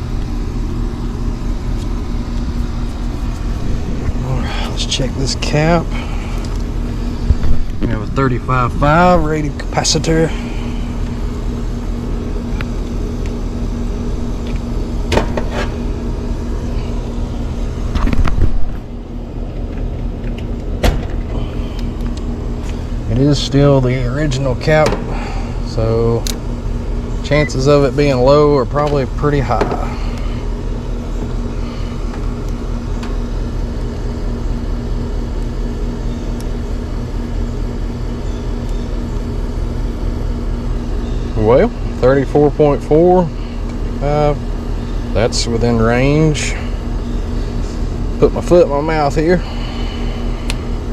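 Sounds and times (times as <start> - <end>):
machine hum: 0.0 - 50.9.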